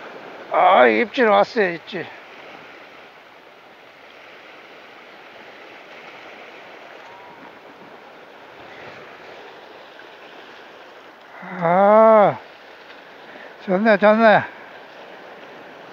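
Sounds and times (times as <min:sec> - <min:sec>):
ocean surf over rocks: 0:00.0 - 0:15.9.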